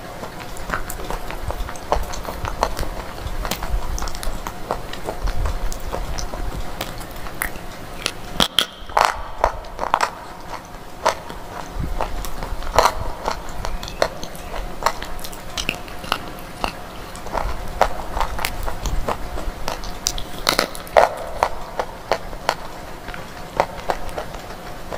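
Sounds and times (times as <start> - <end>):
chewing crunchy slate: 0.1 - 24.9.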